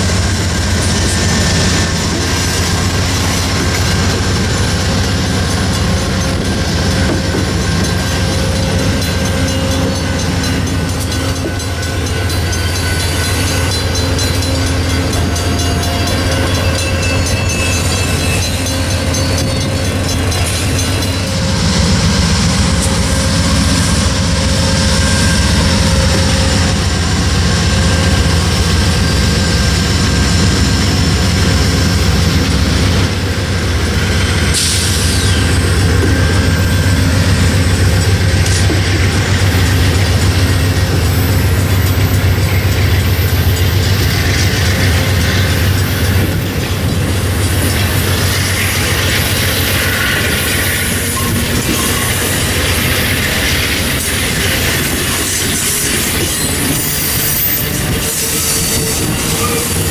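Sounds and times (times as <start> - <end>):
diesel locomotive engine hum: 0.0 - 59.9
train cars rolling on rails: 0.0 - 59.9.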